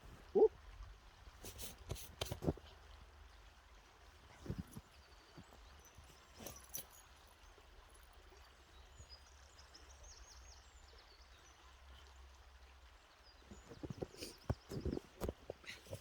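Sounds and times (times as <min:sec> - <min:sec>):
faint rushing water: 0:00.0 - 0:16.0.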